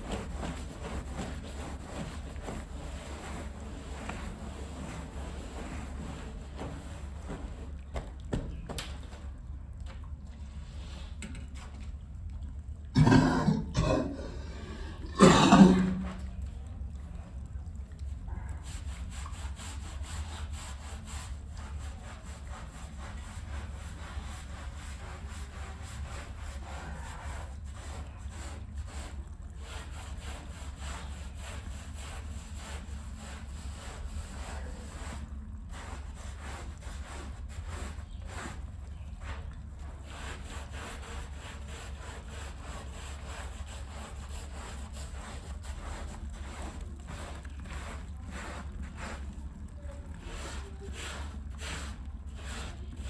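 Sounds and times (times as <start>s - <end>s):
stiff brush scrubbing wet rug: 0.0s - 9.6s, 12.9s - 53.0s
steady low hum: 0.0s - 53.0s.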